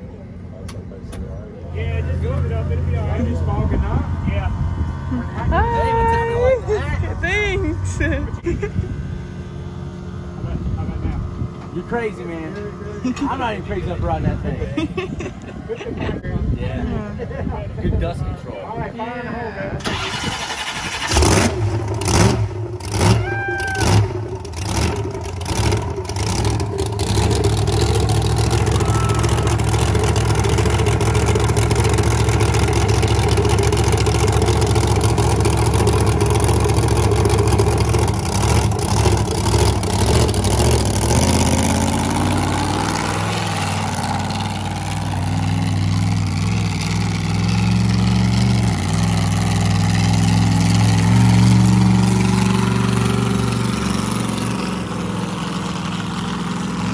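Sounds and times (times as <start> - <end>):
monster truck engine roaring: 0.0 - 56.9.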